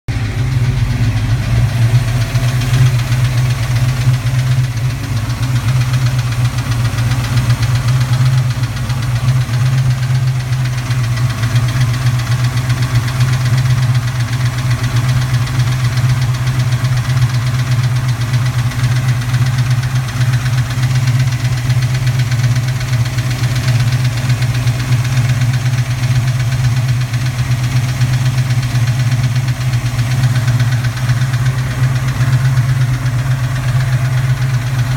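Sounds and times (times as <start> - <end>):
engine idling with metallic clatter: 0.1 - 34.9.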